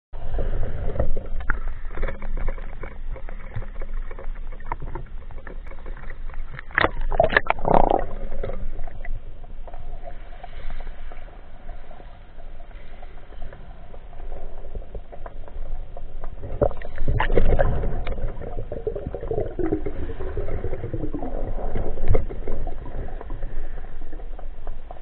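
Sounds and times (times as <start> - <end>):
water splashing and gurgling: 0.2 - 25.0.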